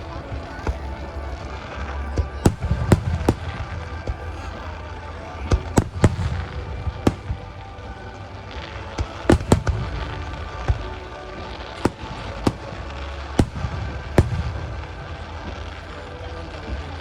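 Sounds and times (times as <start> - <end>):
fireworks bursting: 0.0 - 17.0
steady low rumble: 0.0 - 17.0.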